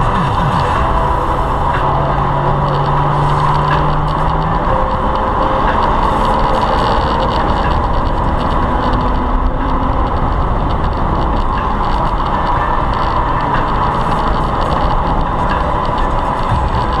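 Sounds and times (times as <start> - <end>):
car accelerating from inside cabin: 0.0 - 17.0.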